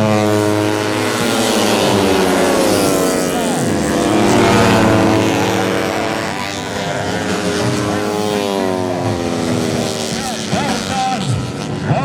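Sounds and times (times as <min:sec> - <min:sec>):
racing motorcycles at high revs: 0:00.0 - 0:12.0.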